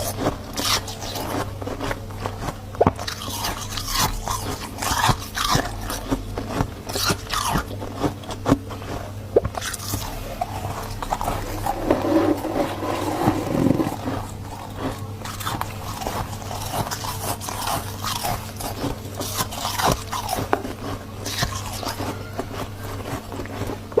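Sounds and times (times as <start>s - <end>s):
frost being chewed with crunches: 0.0s - 24.0s.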